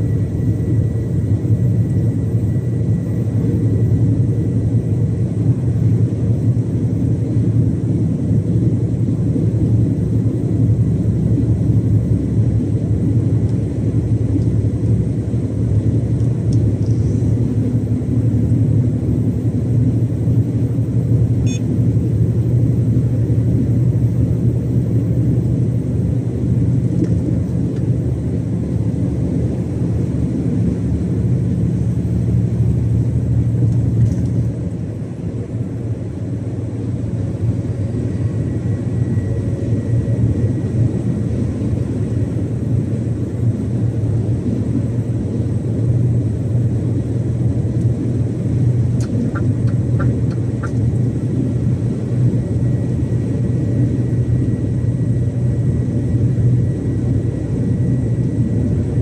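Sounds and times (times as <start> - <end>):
diesel truck engine drone: 0.0 - 59.0
road rumble: 0.0 - 59.0.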